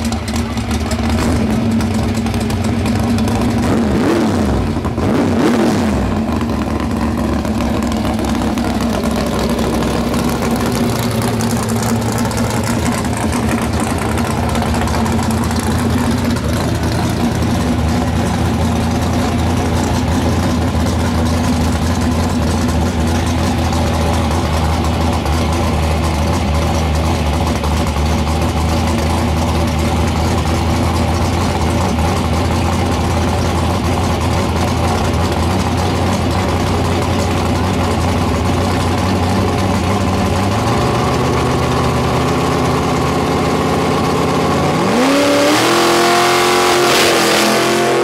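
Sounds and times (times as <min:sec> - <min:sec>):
race car engine idling loudly: 0:00.0 - 0:48.0.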